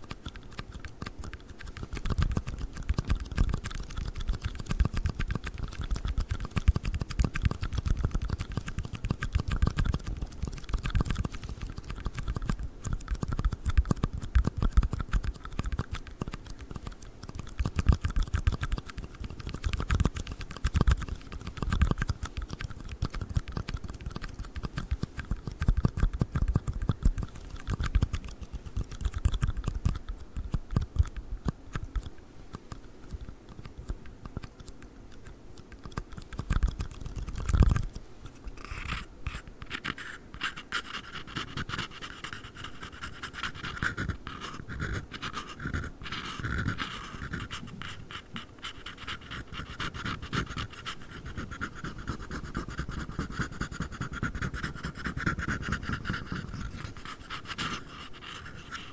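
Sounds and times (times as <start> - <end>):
bright steady scratching: 0.0 - 58.9.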